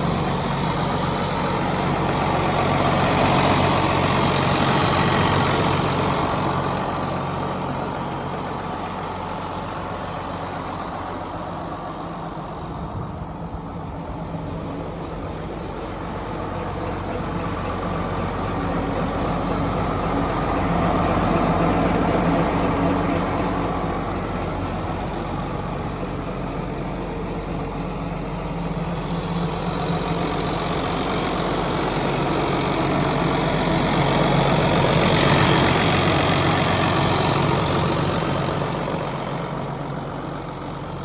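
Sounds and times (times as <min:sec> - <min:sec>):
tractor diesel engine idling: 0:00.0 - 0:41.0.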